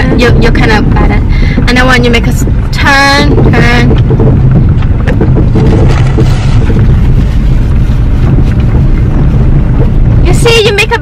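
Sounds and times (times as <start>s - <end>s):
road and engine noise: 0.0s - 11.0s
wind buffeting microphone: 0.0s - 11.0s.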